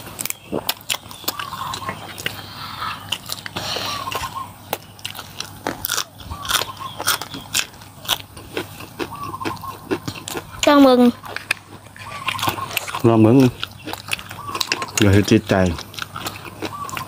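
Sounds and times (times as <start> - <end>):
crunchy biting and chewing: 0.0 - 17.0.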